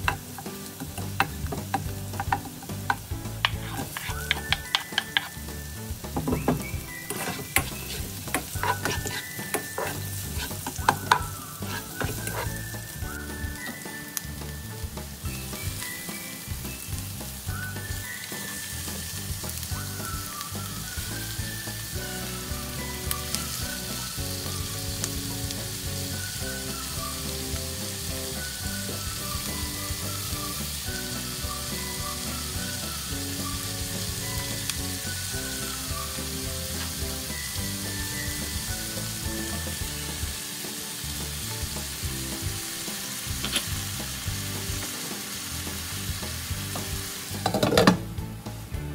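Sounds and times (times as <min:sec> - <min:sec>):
fish sizzling in frying pan: 0:00.0 - 0:48.9
light background music: 0:00.0 - 0:48.9.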